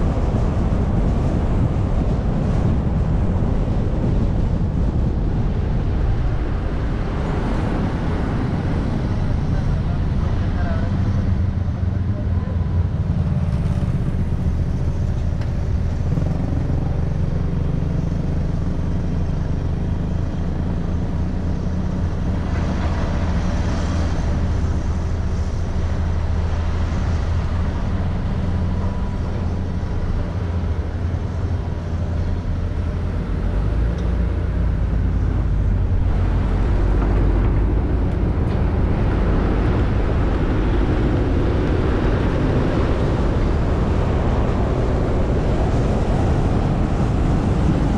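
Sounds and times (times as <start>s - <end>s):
car engine rumble: 0.0s - 47.9s
road noise: 0.0s - 47.9s.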